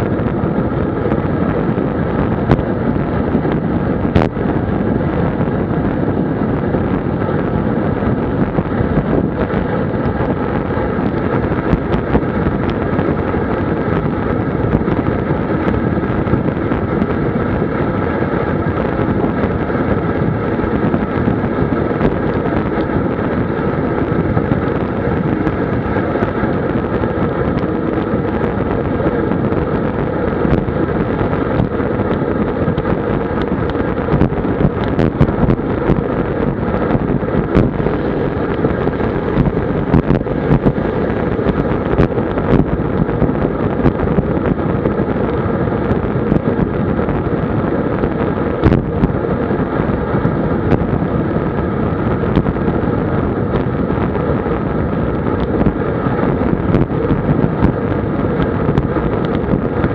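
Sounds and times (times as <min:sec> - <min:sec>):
road and tyre noise: 0:00.0 - 0:59.9
wind rushing over microphone: 0:00.0 - 0:59.9.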